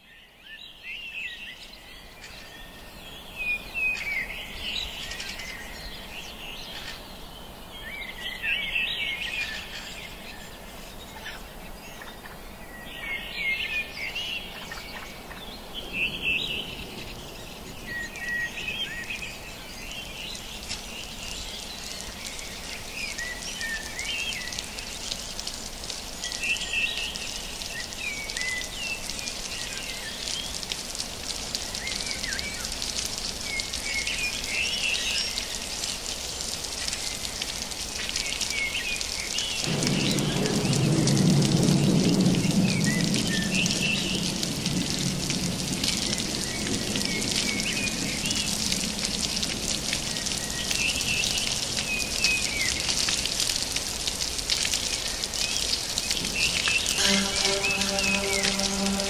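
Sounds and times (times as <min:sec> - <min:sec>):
background hiss: 0:02.3 - 0:59.0.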